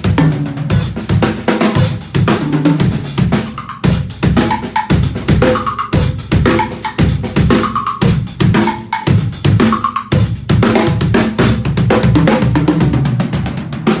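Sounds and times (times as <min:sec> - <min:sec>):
acoustic drum kit playing: 0:00.0 - 0:14.0.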